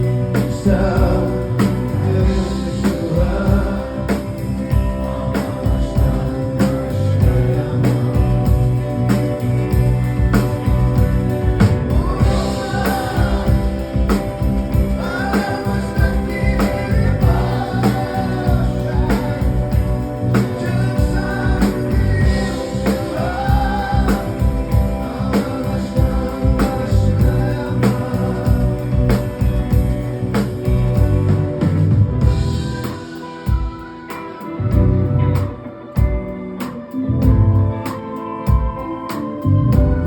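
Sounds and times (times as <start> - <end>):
steady drum beat: 0.0 - 34.0
live rock band playing: 0.0 - 40.0.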